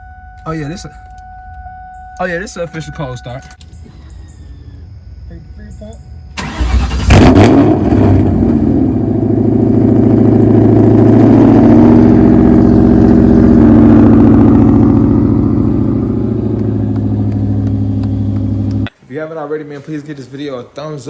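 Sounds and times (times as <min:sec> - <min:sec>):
car engine starting and idling: 0:00.0 - 0:18.9.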